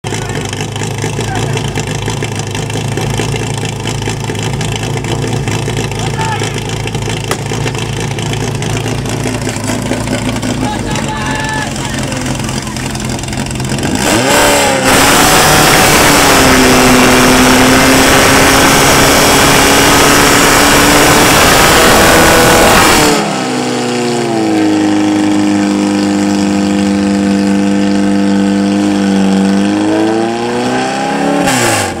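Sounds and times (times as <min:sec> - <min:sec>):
pump engine revving: 0:00.0 - 0:32.0.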